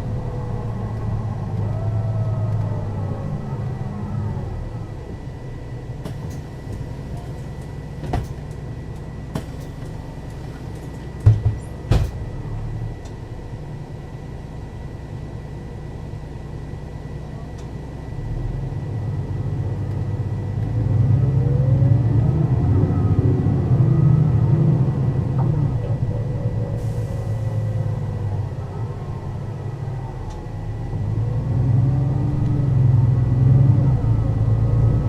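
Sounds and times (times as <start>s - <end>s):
bus diesel engine idling: 0.0s - 20.7s, 23.4s - 35.0s
bus pulling away: 0.0s - 35.0s.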